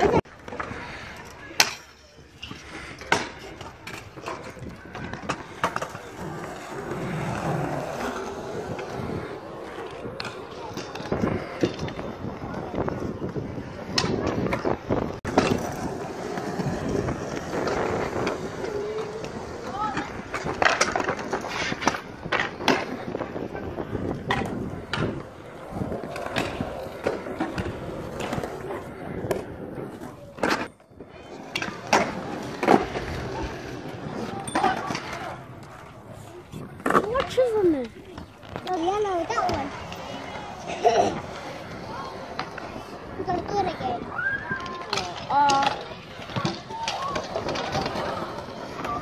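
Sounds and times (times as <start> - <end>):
skateboard rolling on concrete: 0.0 - 49.0
skateboard clacks on concrete: 2.9 - 49.0.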